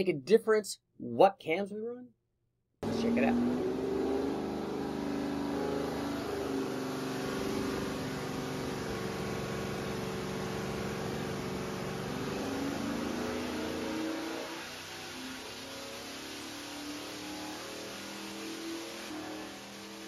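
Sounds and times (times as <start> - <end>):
engine running: 2.8 - 20.0.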